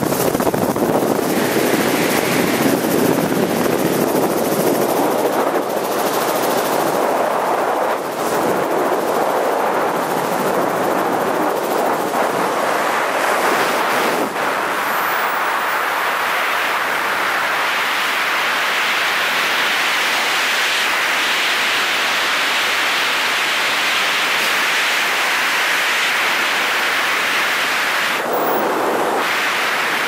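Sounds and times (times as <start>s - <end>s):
air rushing over microphone: 0.0s - 30.0s.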